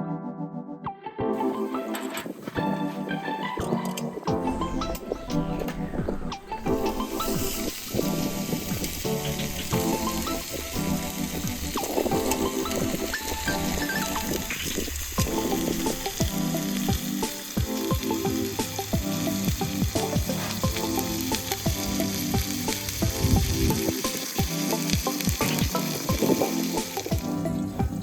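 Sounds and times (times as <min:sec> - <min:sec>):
background music: 0:00.0 - 0:28.0
food sizzling on a grill: 0:03.7 - 0:28.0.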